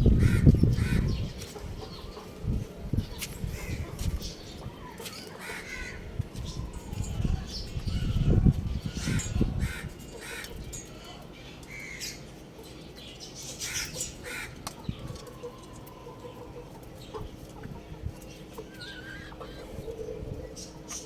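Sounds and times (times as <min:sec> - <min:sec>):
chicks chirping and clucking: 0:00.0 - 0:21.0.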